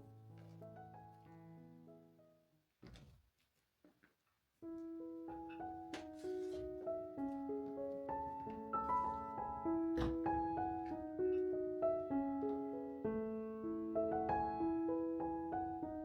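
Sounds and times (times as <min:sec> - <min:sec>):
soft piano music: 0:00.0 - 0:02.5, 0:04.6 - 0:16.0.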